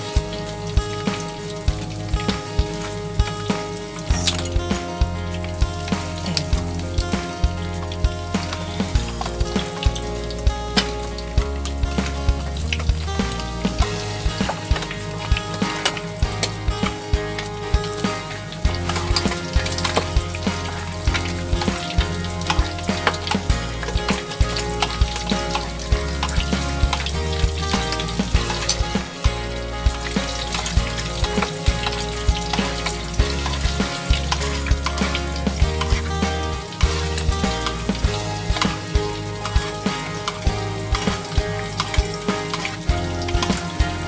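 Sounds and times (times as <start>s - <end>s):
background music with bass line: 0.0s - 44.0s.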